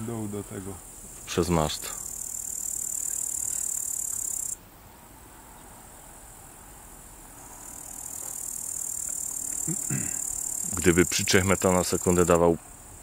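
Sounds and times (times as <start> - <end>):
crickets chirring: 0.0 - 4.6, 5.5 - 13.0.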